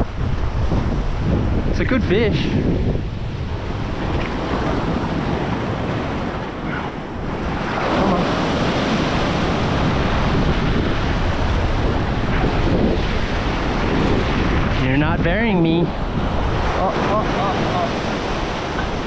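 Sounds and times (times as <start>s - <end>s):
wind gusting on microphone: 0.0s - 19.0s
waves breaking against rocks: 0.7s - 19.0s.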